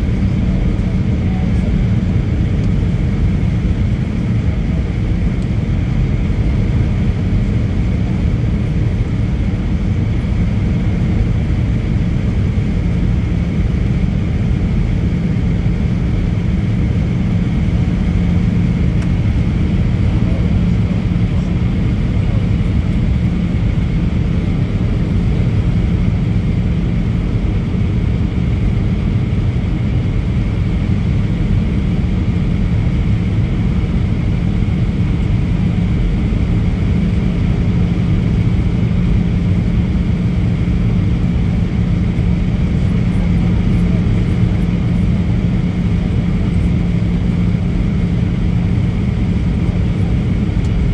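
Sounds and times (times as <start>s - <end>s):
jet cabin rumble: 0.0s - 50.9s
steady low hum: 0.0s - 50.9s.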